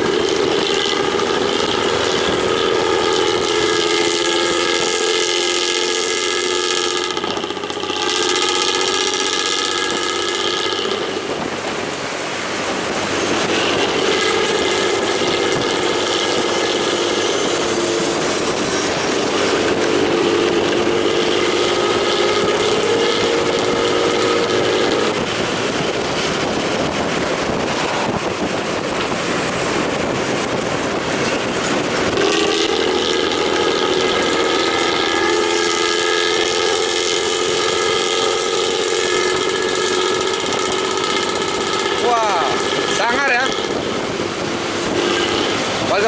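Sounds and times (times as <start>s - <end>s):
bus exhaust droning growl: 0.0s - 46.0s
rough road noise: 0.0s - 46.0s.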